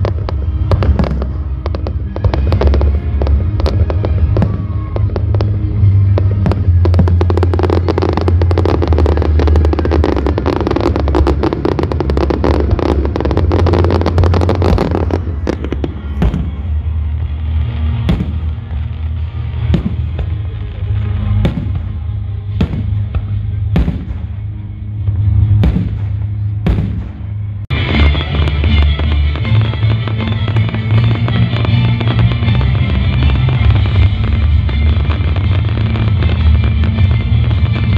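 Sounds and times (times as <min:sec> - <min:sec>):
fireworks crackling and banging: 0:00.0 - 0:37.9
music with steady bass: 0:00.0 - 0:37.9.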